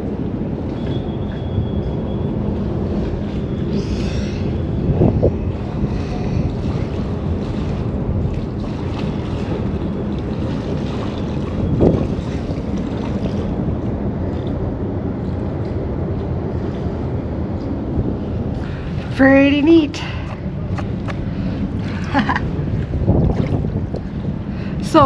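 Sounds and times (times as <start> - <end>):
wind buffeting the microphone: 0.0 - 25.0.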